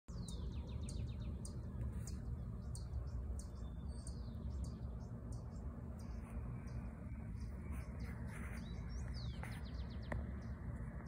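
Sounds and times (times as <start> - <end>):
birds chirping high chips: 0.1 - 11.0
steady low rumble: 0.1 - 11.0.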